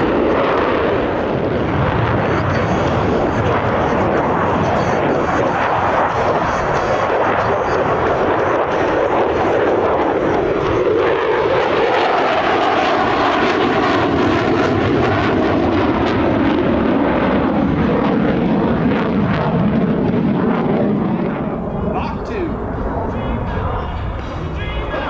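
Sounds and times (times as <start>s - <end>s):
fighter jet engine rush: 0.0s - 25.0s.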